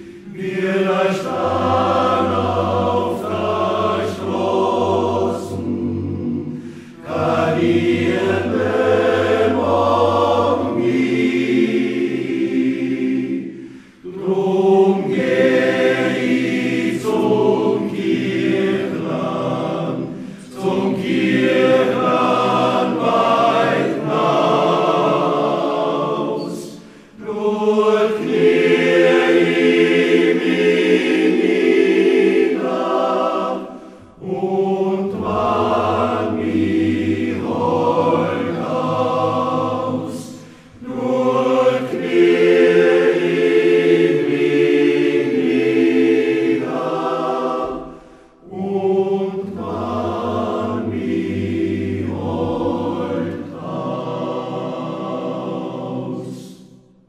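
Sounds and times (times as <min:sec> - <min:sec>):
men's choir singing unaccompanied: 0:00.0 - 0:57.0.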